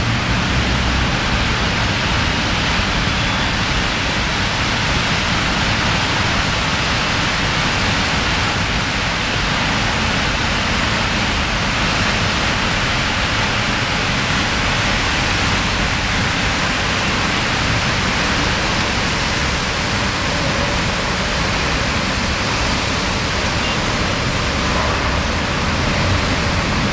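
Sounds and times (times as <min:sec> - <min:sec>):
heavy rainfall: 0:00.0 - 0:26.9.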